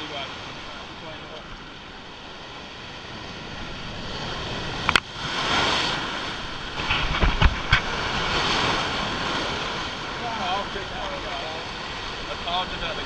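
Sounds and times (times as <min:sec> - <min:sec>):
muffled surf washing over rocks: 0:00.0 - 0:13.0.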